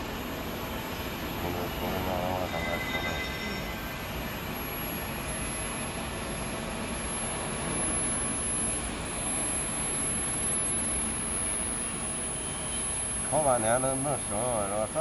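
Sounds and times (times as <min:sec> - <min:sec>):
melting furnace machinery noise: 0:00.0 - 0:15.0.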